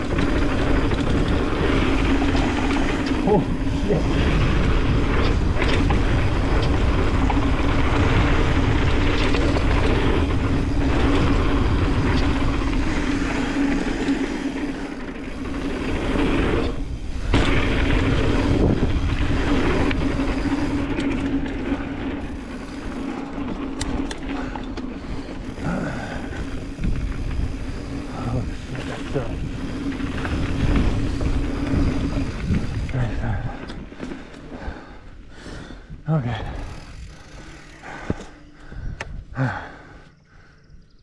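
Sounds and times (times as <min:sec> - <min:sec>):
wind rushing over microphone: 0:00.0 - 0:34.0, 0:34.6 - 0:40.0
bike tyres rumbling on dirt: 0:00.0 - 0:40.6.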